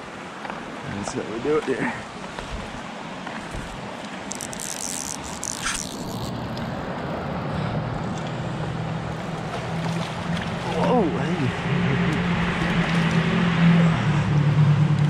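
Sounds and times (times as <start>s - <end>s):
creek water flowing: 0.0s - 14.6s.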